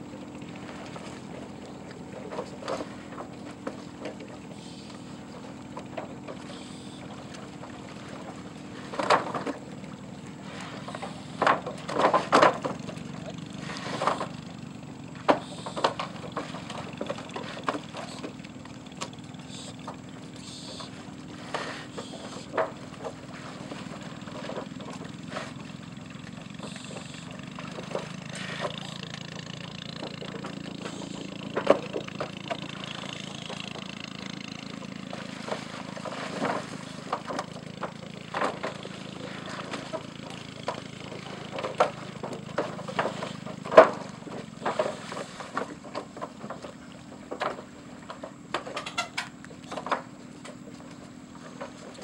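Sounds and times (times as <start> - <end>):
low engine hum: 0.0 - 52.0.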